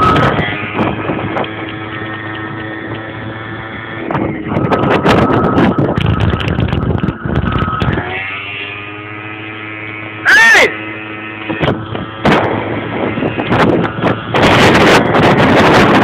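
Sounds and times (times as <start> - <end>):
scooter engine running: 0.0 - 16.0
wind buffeting microphone: 0.0 - 16.0.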